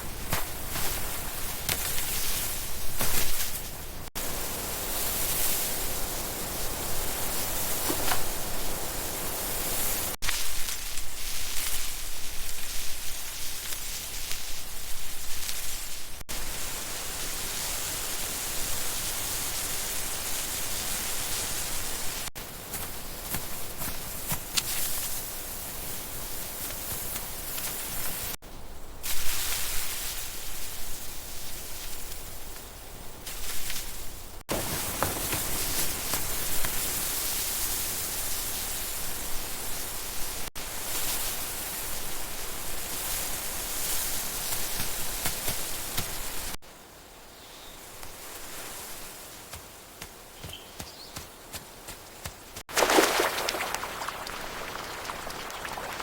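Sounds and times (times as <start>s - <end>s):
outdoor ambient hiss: 0.0s - 56.0s.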